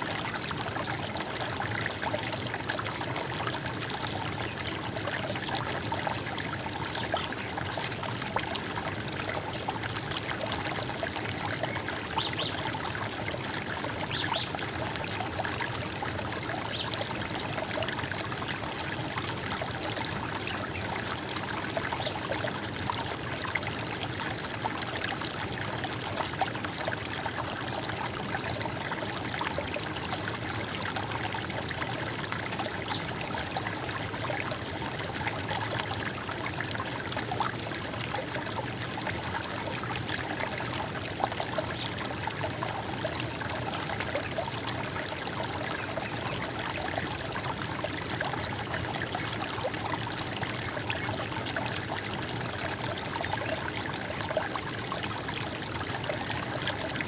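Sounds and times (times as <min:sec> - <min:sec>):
stream water trickling and gurgling: 0:00.0 - 0:57.0.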